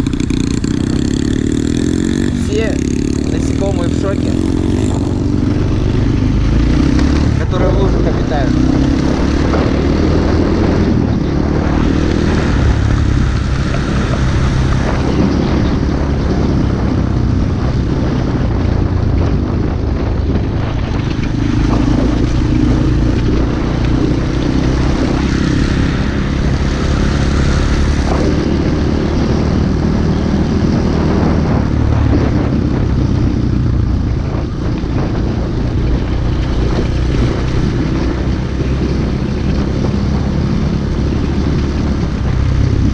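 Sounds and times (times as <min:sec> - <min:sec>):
single-cylinder motorbike engine running: 0:00.0 - 0:42.9.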